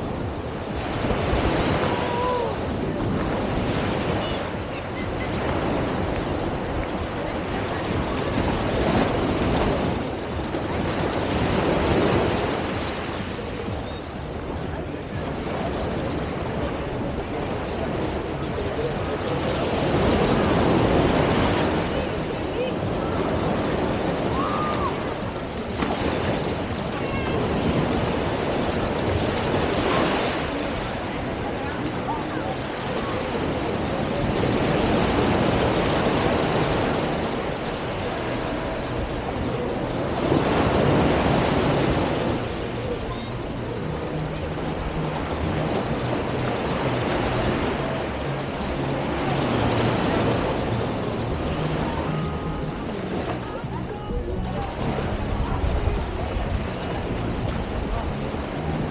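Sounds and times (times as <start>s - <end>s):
waves washing onto beach: 0.0s - 58.9s
wind on microphone: 0.0s - 58.9s.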